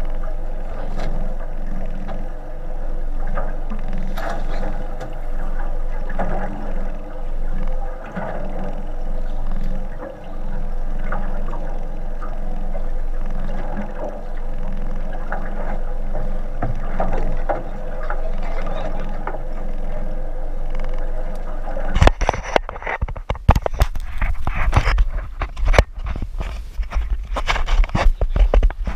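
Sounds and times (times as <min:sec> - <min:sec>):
boat engine idling: 0:00.0 - 0:28.9
water slapping against hull: 0:00.0 - 0:28.9.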